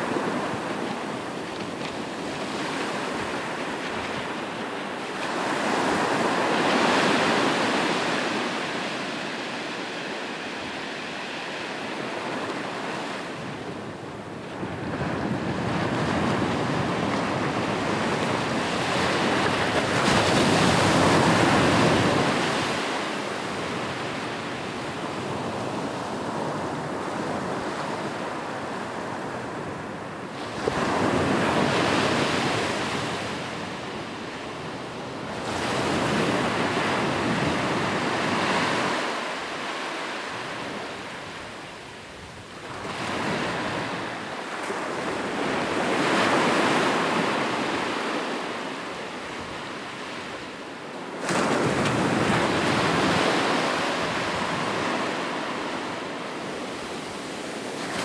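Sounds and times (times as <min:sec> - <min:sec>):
ocean waves breaking on shore: 0:00.0 - 0:13.6, 0:14.6 - 0:58.0.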